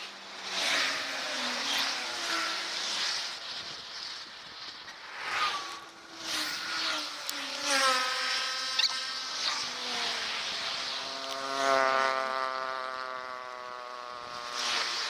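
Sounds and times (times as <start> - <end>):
road and wind noise: 0.0 - 15.0
vehicles passing by: 0.0 - 15.0.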